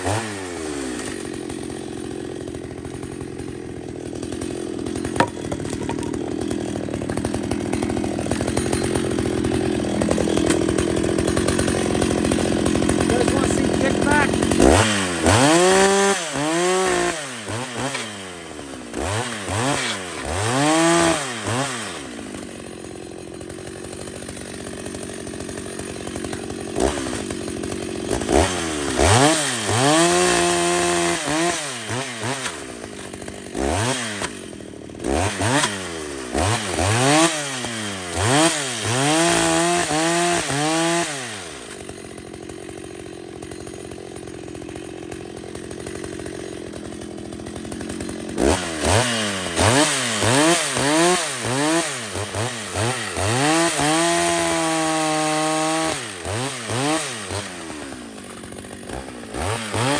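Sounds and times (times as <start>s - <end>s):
chainsaw revving: 0.0s - 59.9s.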